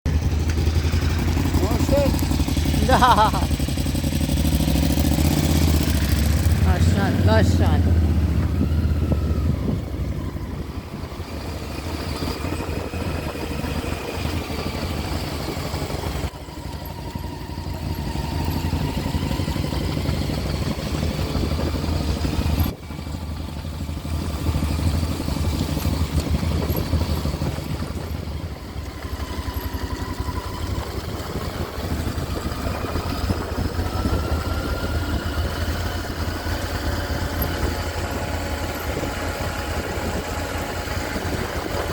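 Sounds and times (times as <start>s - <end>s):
motorcycle engine at low revs: 0.1s - 41.9s.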